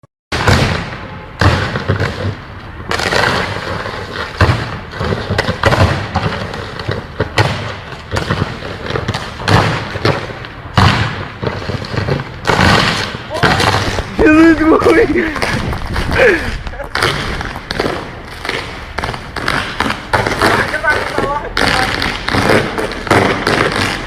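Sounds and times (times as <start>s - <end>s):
electrical arcing bangs: 0.3s - 24.0s.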